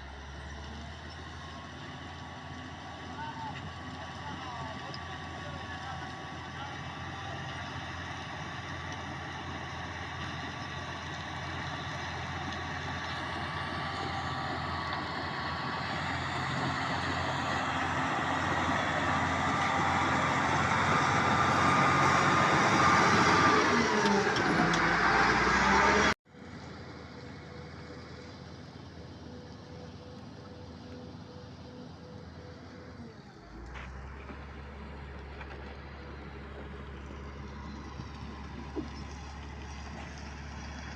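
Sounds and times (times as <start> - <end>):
quiet steady engine rumble: 0.0 - 19.0, 26.2 - 40.9
heavy diesel engine running: 0.0 - 40.9.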